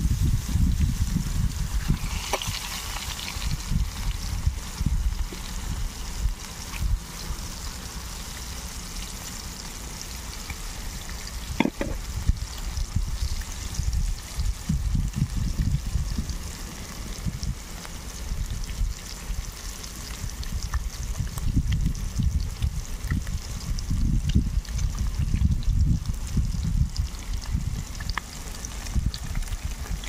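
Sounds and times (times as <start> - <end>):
wind rumble on microphone: 0.0 - 7.6, 10.4 - 30.0
fish sizzling in oil: 0.0 - 30.0.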